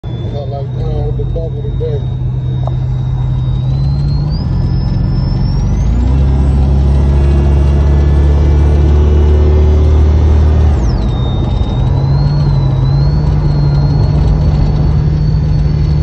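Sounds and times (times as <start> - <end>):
car engine accelerating: 0.0 - 16.0
thin high whine: 0.0 - 16.0.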